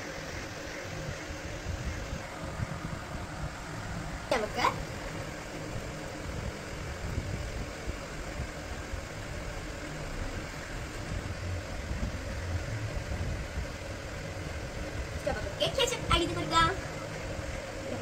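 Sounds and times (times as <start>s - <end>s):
steady low rumble with hiss: 0.0s - 18.0s.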